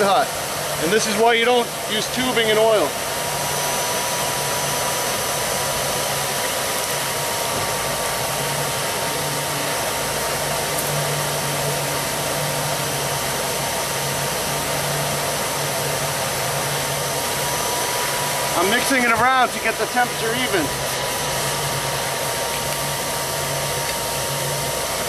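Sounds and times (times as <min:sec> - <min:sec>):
hair dryer blowing air: 0:00.0 - 0:25.0.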